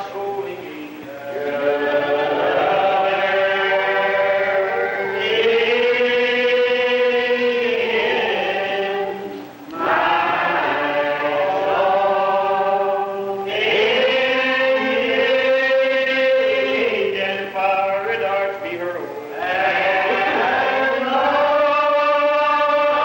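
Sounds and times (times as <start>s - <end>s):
congregation singing a hymn: 0.0s - 23.0s.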